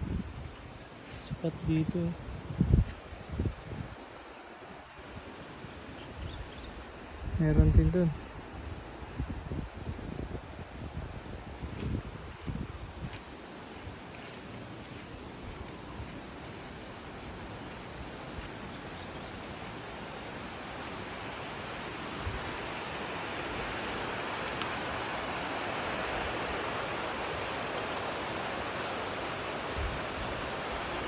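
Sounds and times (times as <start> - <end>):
cricket trilling: 0.0 - 31.0.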